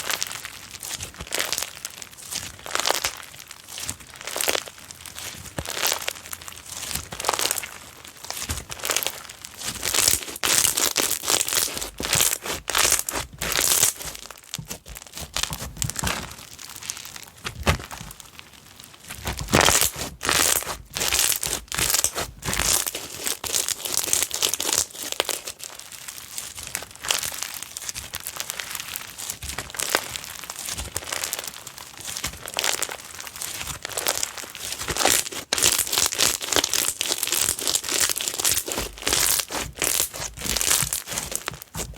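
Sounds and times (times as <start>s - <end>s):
slime crackling and popping: 0.0s - 41.9s.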